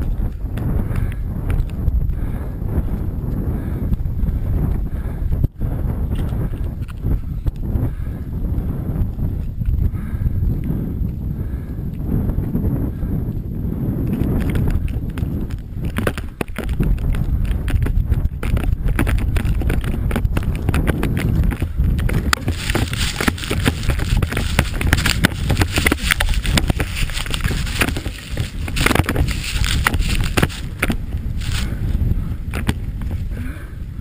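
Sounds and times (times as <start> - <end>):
snowmobile engine rumble: 0.0 - 34.0.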